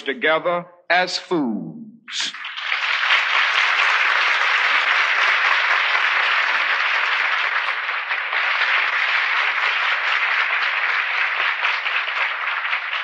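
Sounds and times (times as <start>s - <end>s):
audience applauding: 2.2s - 13.0s.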